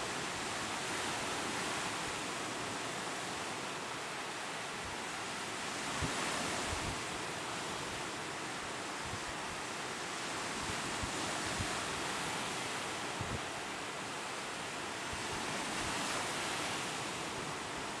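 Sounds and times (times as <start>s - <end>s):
waves breaking on sand shore: 0.0s - 18.0s.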